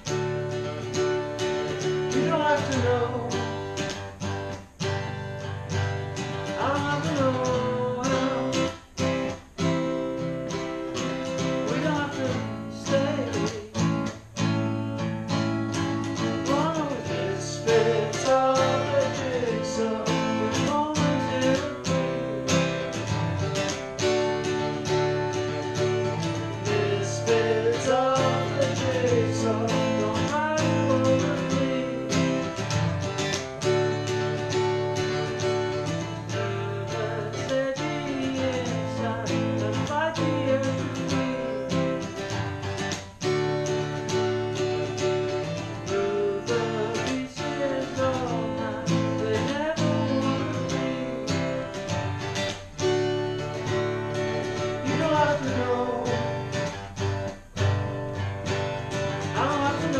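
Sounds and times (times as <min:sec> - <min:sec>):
man singing: 0:00.0 - 0:04.4, 0:05.7 - 0:23.7, 0:24.4 - 0:42.5, 0:44.0 - 0:57.8, 0:58.9 - 0:59.9
acoustic guitars strumming: 0:00.0 - 0:59.9.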